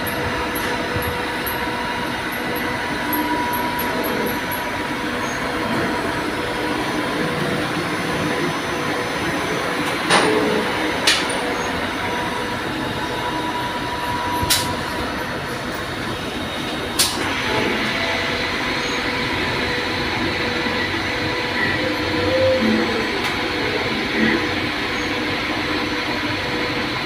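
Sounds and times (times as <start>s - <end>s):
lathe machine running: 0.0s - 27.0s.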